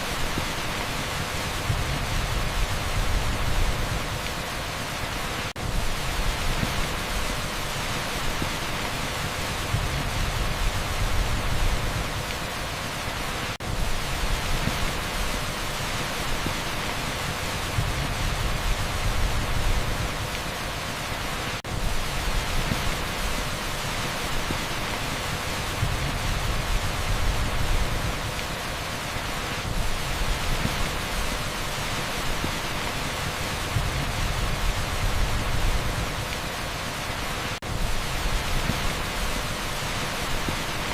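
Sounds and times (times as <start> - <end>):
torrential rain on asphalt: 0.0 - 40.9.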